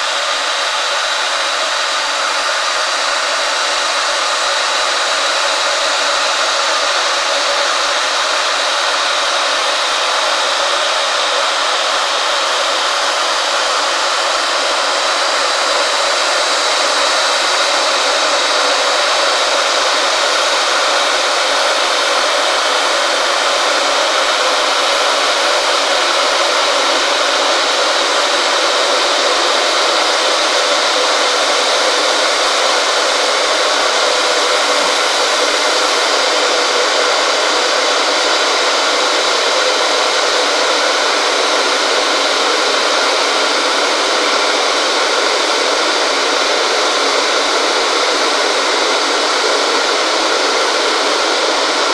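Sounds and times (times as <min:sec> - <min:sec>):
electric kettle heating water: 0:00.0 - 0:51.9.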